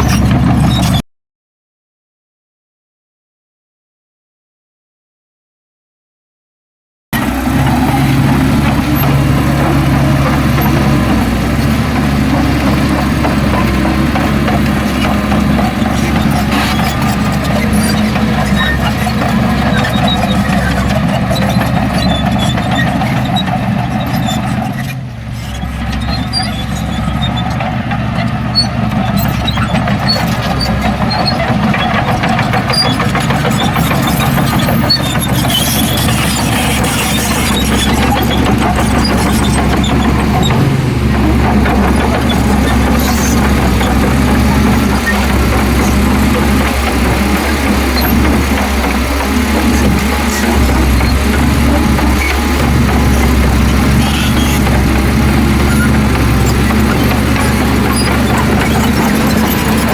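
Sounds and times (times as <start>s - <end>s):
heavy diesel engine under load: 0.0s - 1.0s, 7.2s - 59.9s.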